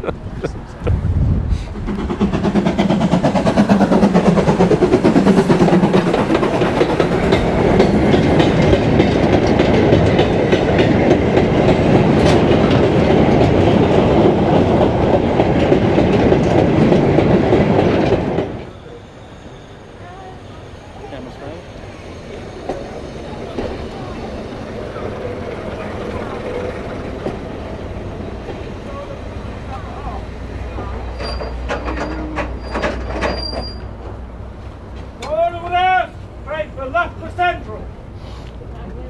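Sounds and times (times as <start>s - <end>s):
steam train passing: 0.0s - 39.0s
wheels clattering over rail joints: 1.8s - 18.6s, 21.6s - 38.0s.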